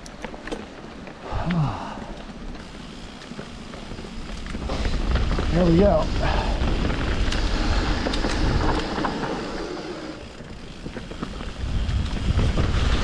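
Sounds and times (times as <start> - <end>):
wind rumbling on microphone: 0.7 - 13.0.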